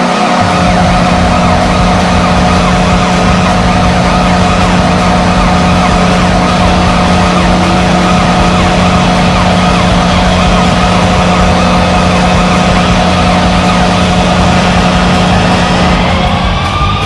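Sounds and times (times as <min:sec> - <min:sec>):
goal horn blast: 0:00.0 - 0:16.5.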